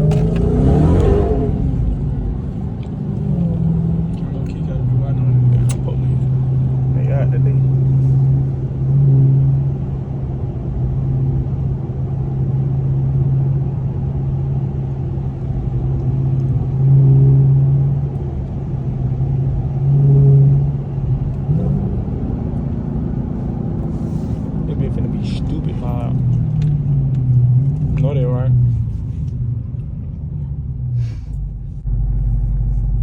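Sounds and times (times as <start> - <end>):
car engine low drone: 0.0 - 33.0.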